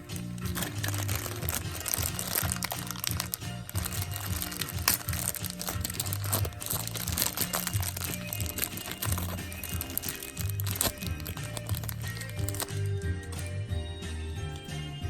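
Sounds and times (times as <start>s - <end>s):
plastic packaging crinkling: 0.0s - 13.6s, 14.5s - 14.7s
background music: 0.0s - 15.0s.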